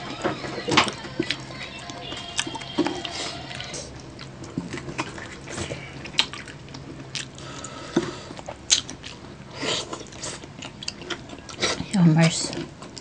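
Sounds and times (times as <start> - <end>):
wet chewing and lip smacking: 1.2 - 13.0.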